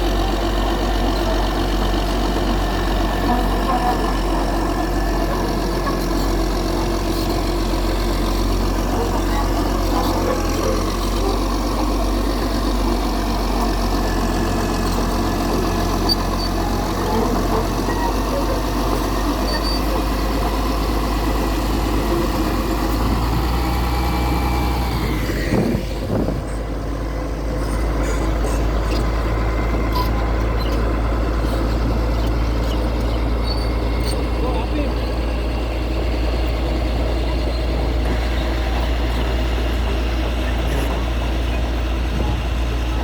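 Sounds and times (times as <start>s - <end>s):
machine engine running: 0.0s - 43.0s.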